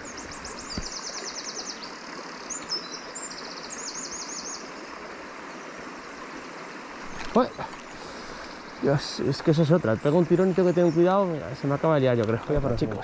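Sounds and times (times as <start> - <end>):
shallow river rushing: 0.0 - 13.0.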